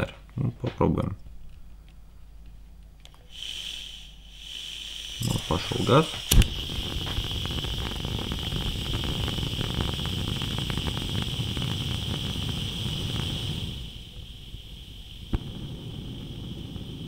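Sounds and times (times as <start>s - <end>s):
crackling flame: 1.2s - 17.0s
gas hissing from lantern burner: 3.1s - 17.0s.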